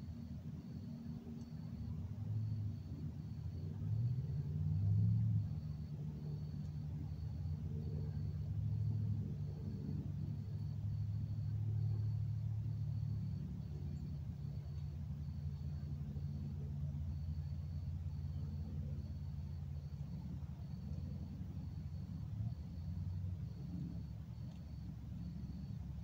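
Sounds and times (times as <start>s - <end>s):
distant road traffic rumble: 0.0s - 26.0s.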